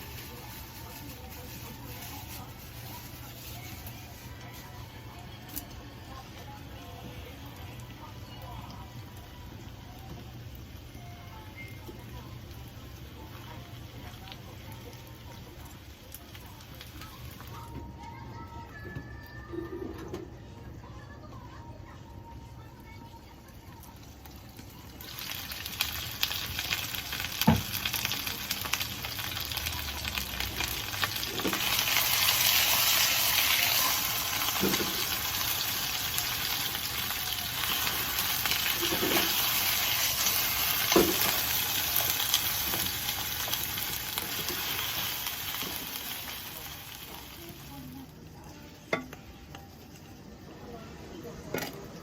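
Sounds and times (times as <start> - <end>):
food sizzling in a frying pan: 0.0 - 18.1, 23.2 - 52.0.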